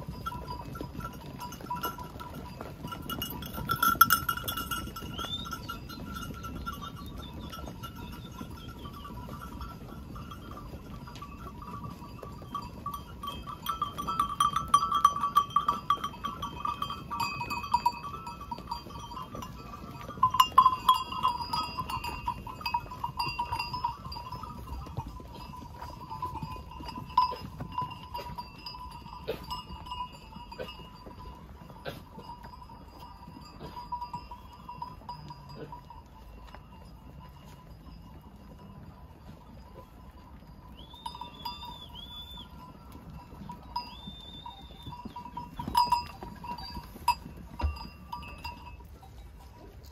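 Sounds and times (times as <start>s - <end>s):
jangling sheep bells: 0.0s - 49.9s.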